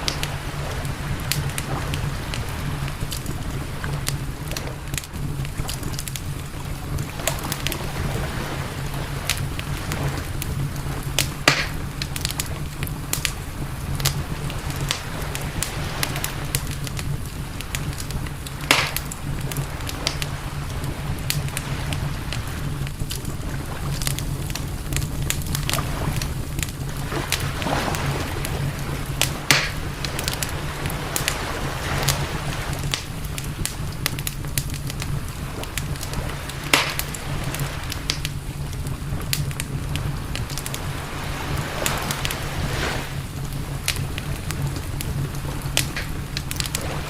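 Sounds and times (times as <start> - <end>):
campfire crackling and popping: 0.0 - 47.0
low fire rumble: 0.0 - 47.0.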